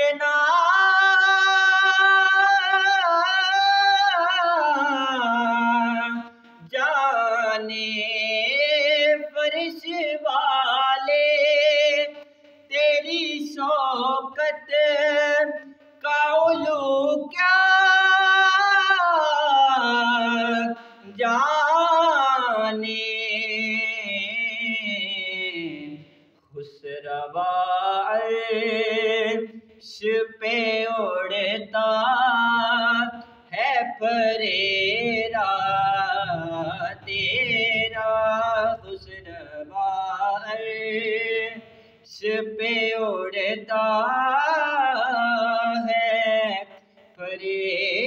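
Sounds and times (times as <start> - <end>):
young man singing unaccompanied: 0.0 - 48.0.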